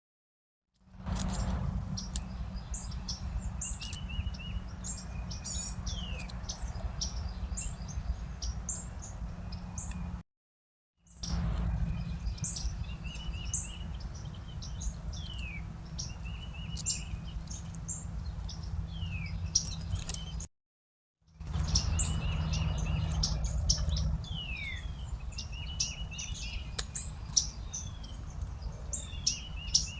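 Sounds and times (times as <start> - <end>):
songbirds chirping: 0.8 - 10.2, 11.1 - 20.5, 21.3 - 29.9.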